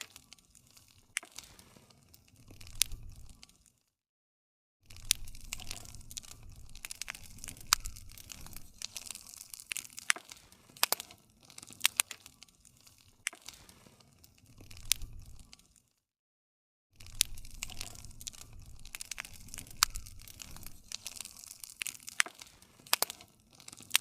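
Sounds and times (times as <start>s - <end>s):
low rumble of burning: 0.0s - 3.8s, 4.8s - 15.9s, 17.0s - 24.0s
wood fire crackling: 0.0s - 3.8s, 4.9s - 15.9s, 17.0s - 24.0s.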